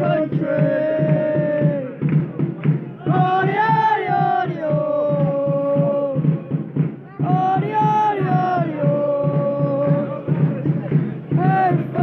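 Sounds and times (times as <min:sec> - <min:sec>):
crowd chanting in unison: 0:00.0 - 0:12.0
low beat: 0:00.0 - 0:12.0.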